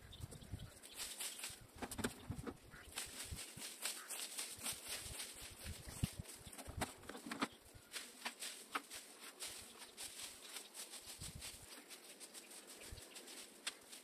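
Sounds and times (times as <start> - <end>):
dry leaves crackling and rustling: 0.0 - 14.0.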